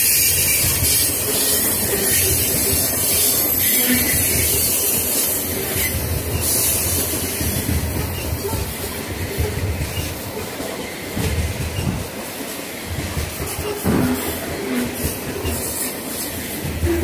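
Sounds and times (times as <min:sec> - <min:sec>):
freight train wheels rolling on rails: 0:00.0 - 0:17.0.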